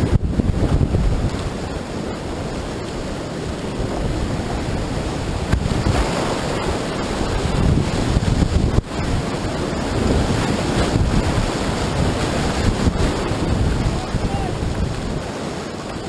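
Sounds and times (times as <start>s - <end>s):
river rapid water roaring: 0.0s - 16.0s
wind buffeting microphone: 0.0s - 16.0s.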